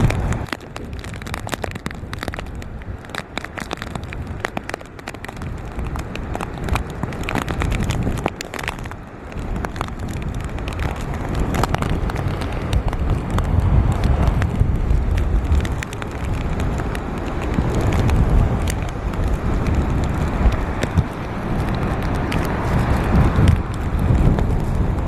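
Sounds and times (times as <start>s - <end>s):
raindrop taps: 0.0s - 25.0s
wind gusts on microphone: 0.0s - 25.0s.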